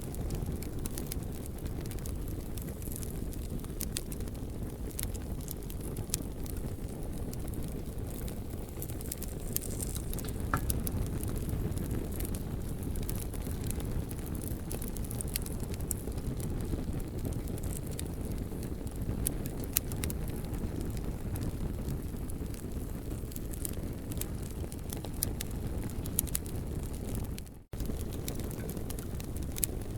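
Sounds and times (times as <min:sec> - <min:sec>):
campfire crackling and popping: 0:00.0 - 0:29.9
fire low rumble: 0:00.0 - 0:29.9.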